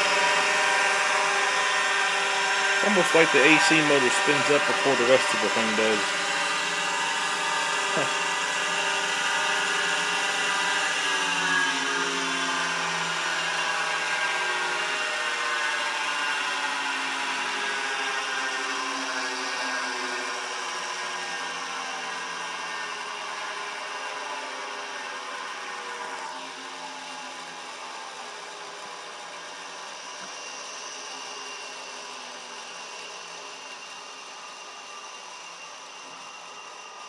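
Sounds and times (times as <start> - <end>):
hard drive motor whirring: 0.0 - 37.0.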